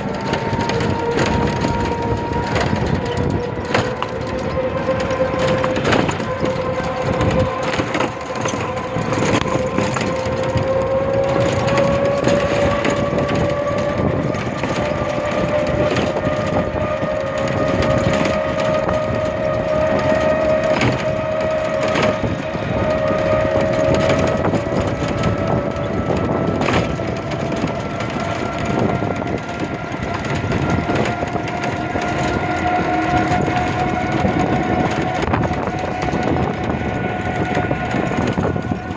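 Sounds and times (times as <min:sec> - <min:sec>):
motor whine rising in pitch: 0:00.0 - 0:38.9
steady rushing noise: 0:00.0 - 0:38.9.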